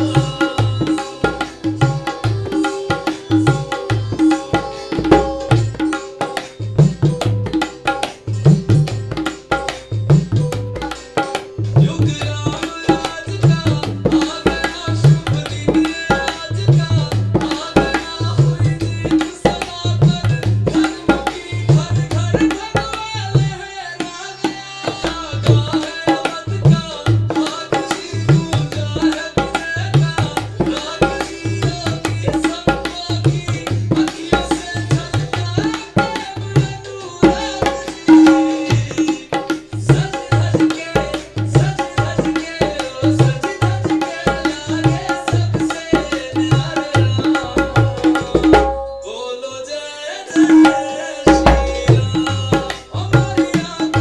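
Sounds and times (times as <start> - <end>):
tabla ringing strokes: 0.0 - 23.5, 24.9 - 49.1, 50.3 - 54.0.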